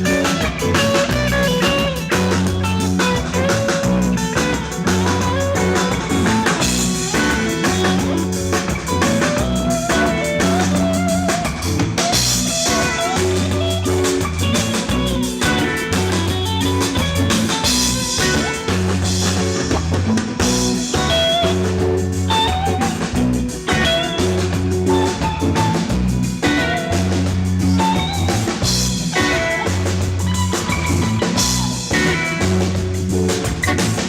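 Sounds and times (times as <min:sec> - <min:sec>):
drum kit steady beat: 0:00.0 - 0:34.0
electric guitar lead lines: 0:00.0 - 0:34.0
repeating bass line: 0:00.0 - 0:34.0.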